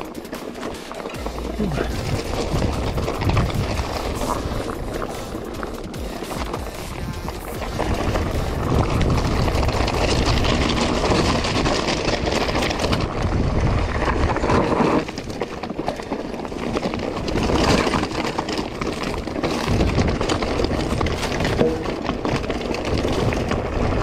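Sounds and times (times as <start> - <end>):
bike rattling: 0.0 - 24.0
tyres crunching over stones: 0.0 - 24.0.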